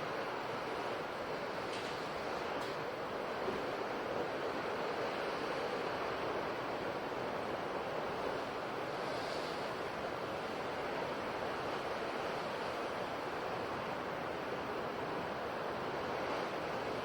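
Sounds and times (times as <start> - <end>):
ocean waves on shore: 0.0 - 17.0.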